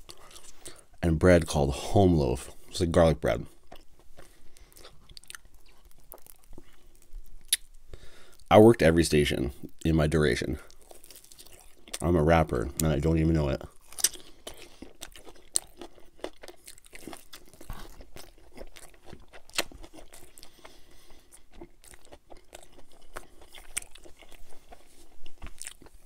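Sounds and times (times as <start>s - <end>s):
mouth chewing crunches: 0.0s - 8.5s, 9.6s - 26.0s.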